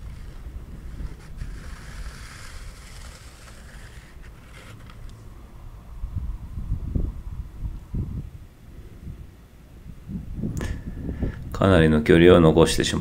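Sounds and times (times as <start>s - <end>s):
wind rumbling on microphone: 0.0s - 4.8s, 5.8s - 13.0s.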